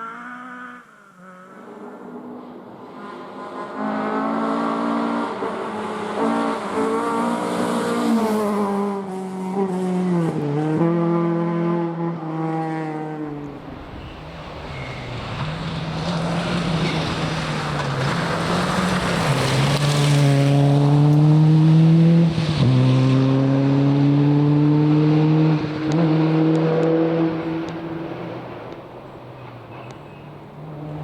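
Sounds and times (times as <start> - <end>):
rally car passing and accelerating: 0.0 - 31.0.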